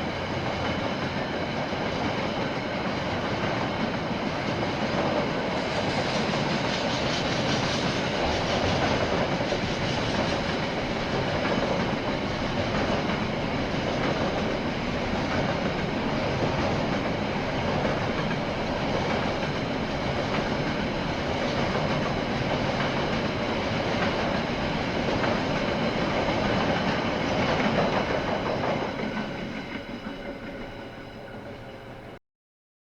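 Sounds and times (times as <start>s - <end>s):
train wheels on rails: 0.0s - 32.2s.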